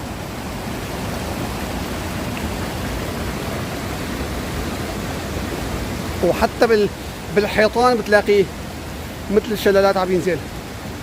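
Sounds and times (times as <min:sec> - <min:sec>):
waterfall rushing and crashing: 0:00.0 - 0:11.0.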